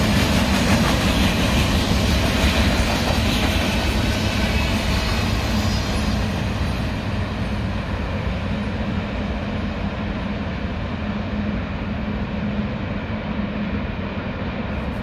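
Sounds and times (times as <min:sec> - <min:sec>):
steel wheels on rails: 0:00.0 - 0:13.0
freight train rolling past: 0:00.0 - 0:15.0.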